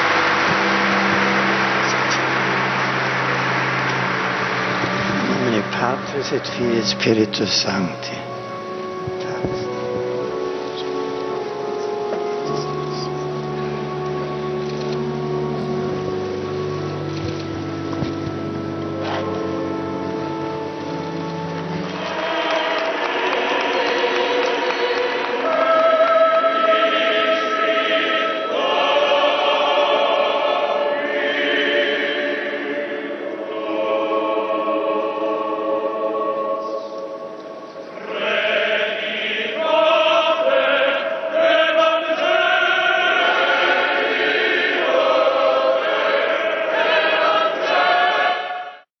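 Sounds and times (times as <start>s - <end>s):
choir singing a slow chant: 0.0s - 48.9s.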